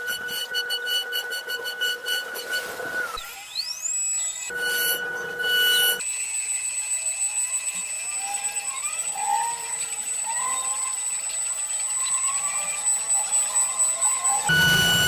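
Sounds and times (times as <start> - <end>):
router machine whine: 0.0 - 15.0.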